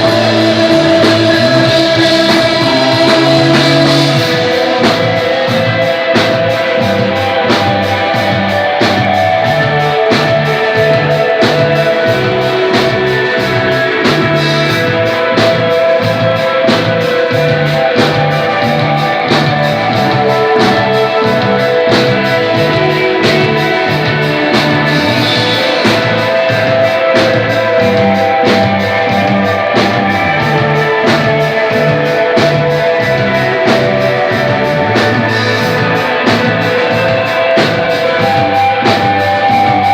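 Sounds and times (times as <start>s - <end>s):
electric guitar: 0.0s - 39.9s
rock band playing live: 0.0s - 39.9s
steady drum beat: 0.0s - 39.9s.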